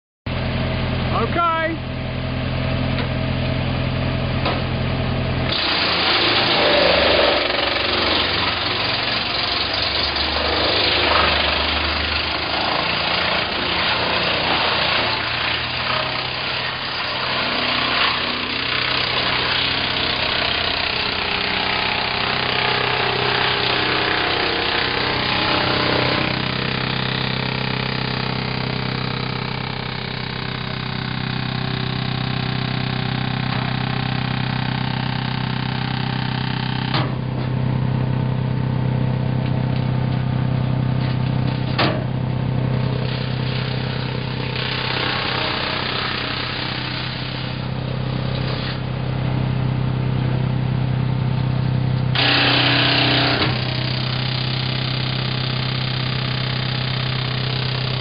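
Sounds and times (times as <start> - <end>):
wood chipper humming: 0.3 - 58.0.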